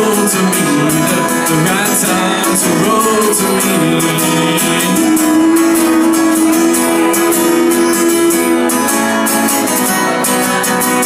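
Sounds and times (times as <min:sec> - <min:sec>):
acoustic guitar strumming: 0:00.0 - 0:11.0
harmonica long note: 0:00.4 - 0:11.0.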